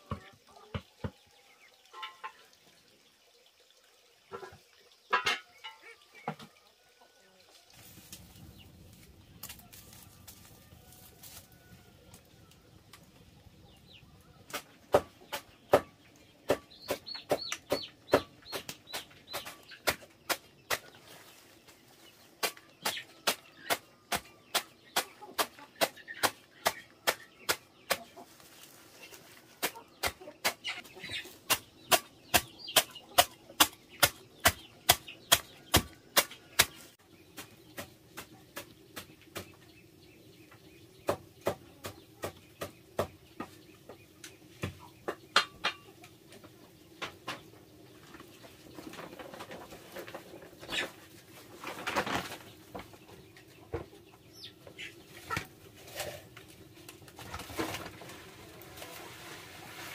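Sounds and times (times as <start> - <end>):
chickens clucking: 0.0 - 2.6, 4.2 - 59.9.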